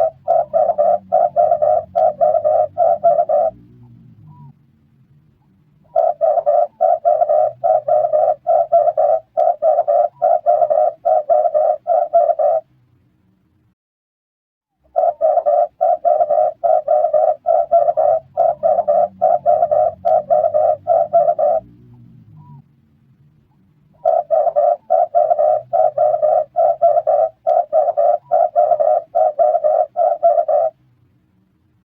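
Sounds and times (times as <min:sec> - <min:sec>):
dove cooing: 0:00.0 - 0:04.6, 0:05.8 - 0:12.7, 0:14.9 - 0:22.6, 0:24.0 - 0:30.8.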